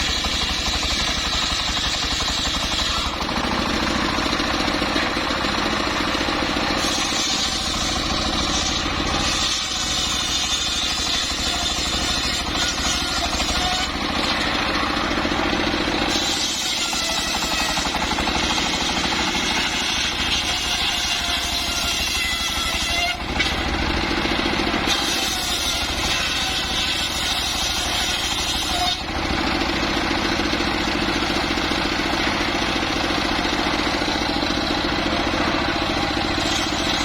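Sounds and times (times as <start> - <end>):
sawmill saw cutting timber: 0.0 - 37.0.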